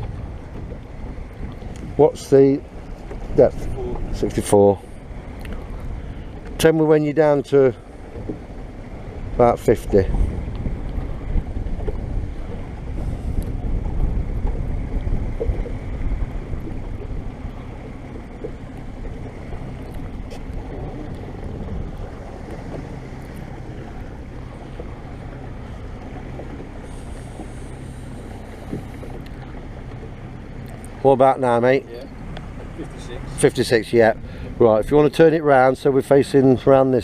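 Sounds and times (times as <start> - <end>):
boat motor running: 0.0 - 37.0
water noise: 0.0 - 37.0
wind buffeting microphone: 0.0 - 37.0.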